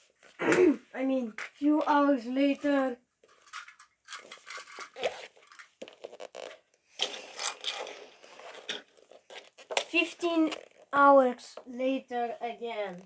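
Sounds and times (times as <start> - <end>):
handling noise rustling and scraping: 0.0 - 10.9.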